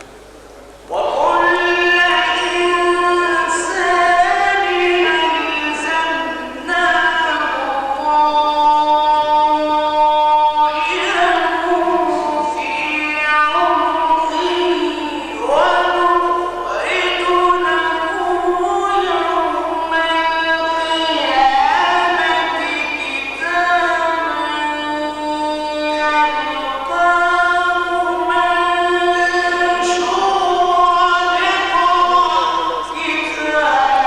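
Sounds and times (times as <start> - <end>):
man chanting: 0.9 - 34.0.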